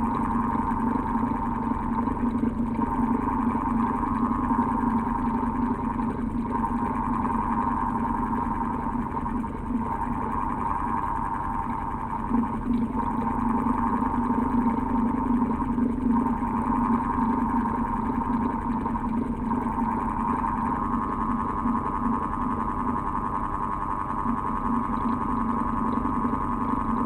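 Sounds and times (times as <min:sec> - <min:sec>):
electric fan whirring: 0:00.0 - 0:02.1, 0:02.8 - 0:27.0.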